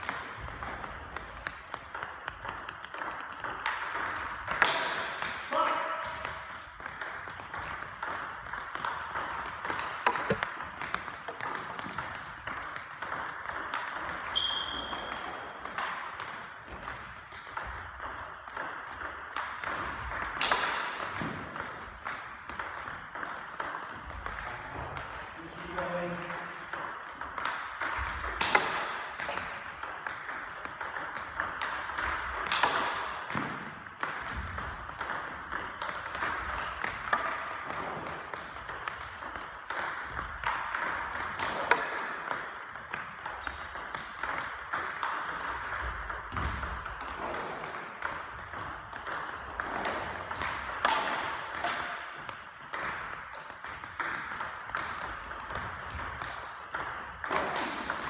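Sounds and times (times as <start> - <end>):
balls bouncing on table: 0.0 - 58.0
ping-pong balls clicking off paddles: 0.0 - 58.0.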